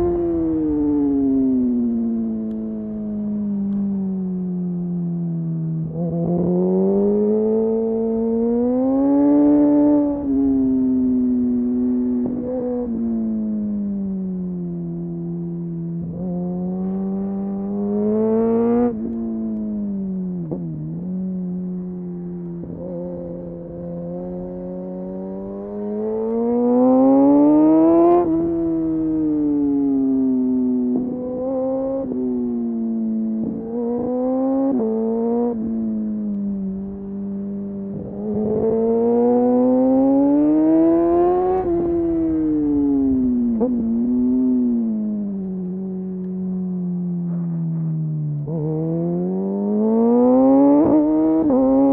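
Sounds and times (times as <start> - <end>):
motorcycle engine revving: 5.5 - 51.9.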